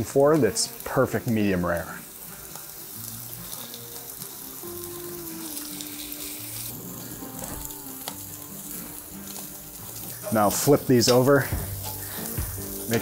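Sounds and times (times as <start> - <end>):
soft background music: 0.0 - 13.0
steaks sizzling on charcoal grill: 0.0 - 13.0.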